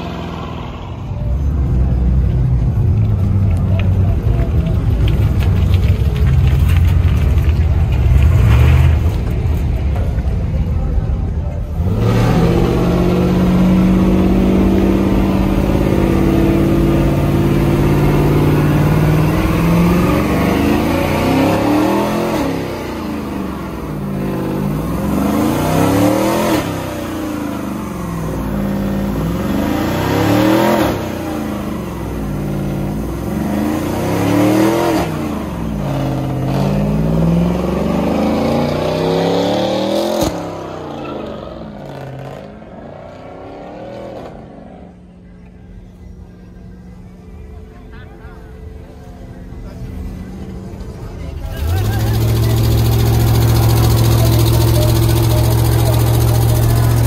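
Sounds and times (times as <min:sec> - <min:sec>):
truck engine revving: 0:00.0 - 0:45.0, 0:49.6 - 0:57.0.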